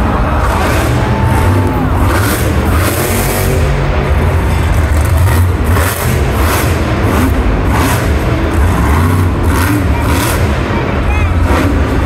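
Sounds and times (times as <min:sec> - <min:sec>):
monster truck engine rumbling: 0:00.0 - 0:12.0.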